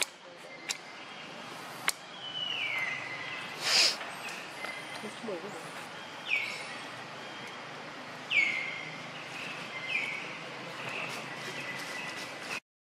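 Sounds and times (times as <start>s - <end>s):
outdoor background noise: 0.0s - 12.6s.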